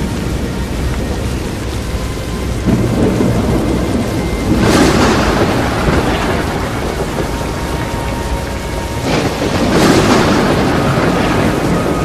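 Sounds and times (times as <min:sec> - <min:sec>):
rain beating against a vehicle: 0:00.0 - 0:12.0
tornado winds: 0:00.0 - 0:12.0.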